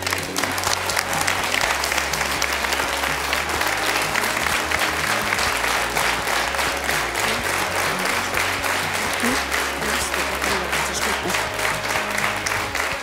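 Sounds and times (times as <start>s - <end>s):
audience applause: 0.0s - 13.0s
music playing: 0.0s - 13.0s.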